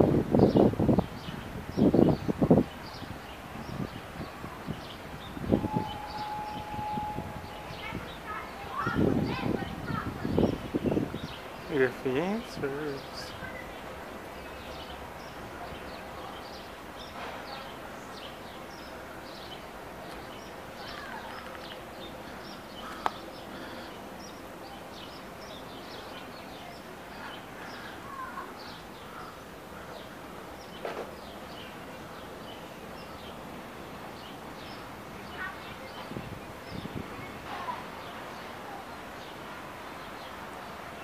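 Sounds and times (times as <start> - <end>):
small birds chirping: 0.3 - 41.0.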